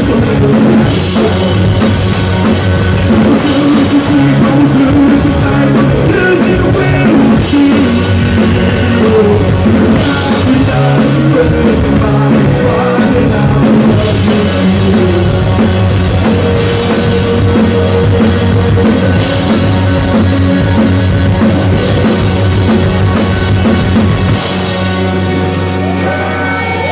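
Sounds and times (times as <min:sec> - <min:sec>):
live rock music: 0:00.0 - 0:26.9.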